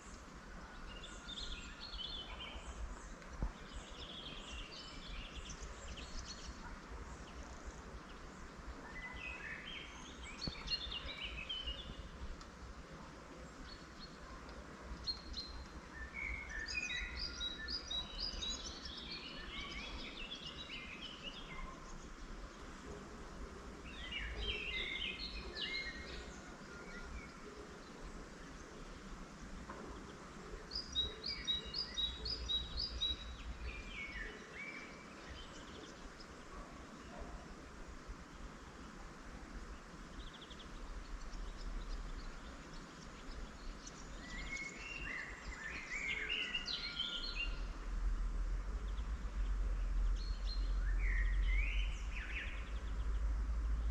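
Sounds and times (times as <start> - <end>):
songbirds singing: 0.0 - 53.9.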